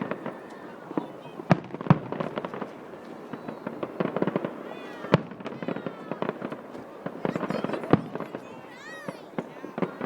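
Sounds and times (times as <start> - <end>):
firework shells bursting with crackling: 0.0 - 10.0.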